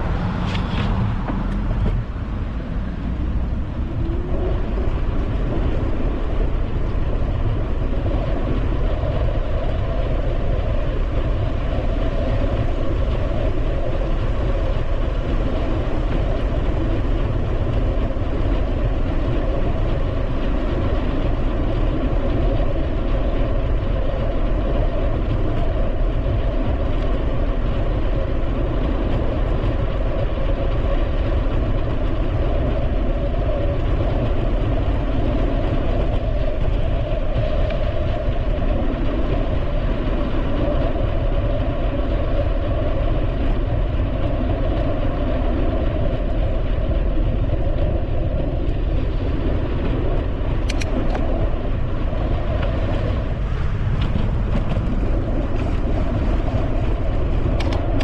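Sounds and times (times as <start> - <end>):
bicycle tyres rolling on pavement: 0.0 - 58.0
wind on microphone: 0.0 - 58.0.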